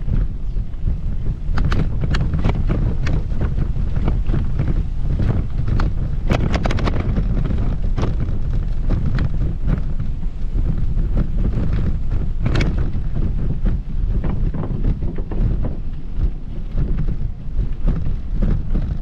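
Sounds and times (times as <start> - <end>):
short irregular ticks: 0.0 - 19.0
wind buffeting microphone: 0.0 - 19.0.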